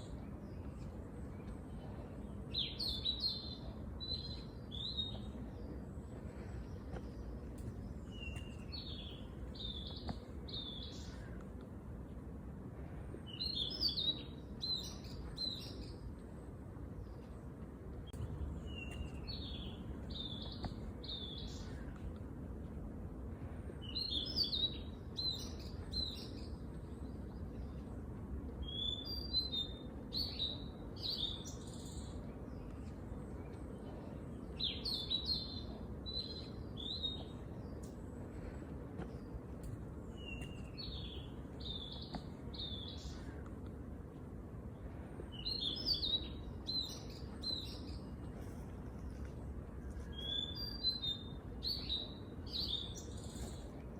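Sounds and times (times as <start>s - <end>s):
songbird chirping: 0.0s - 22.9s, 23.7s - 53.9s
low background rumble: 0.0s - 53.9s.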